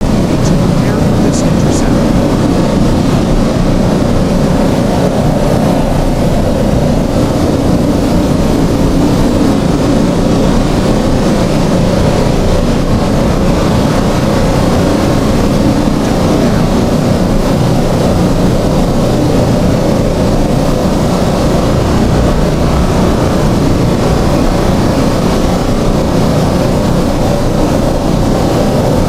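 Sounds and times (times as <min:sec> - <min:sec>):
moving vehicle: 0:00.0 - 0:29.0
wind roar: 0:00.0 - 0:29.0.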